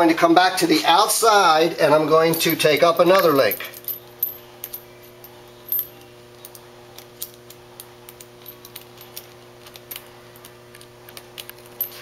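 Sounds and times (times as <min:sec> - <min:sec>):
steady low hum: 0:00.0 - 0:12.0
metal chain links clinking: 0:01.9 - 0:12.0.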